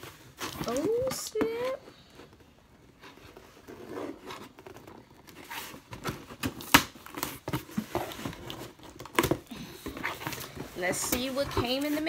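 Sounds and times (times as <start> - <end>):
cardboard box rustling and scraping: 0.0 - 12.0.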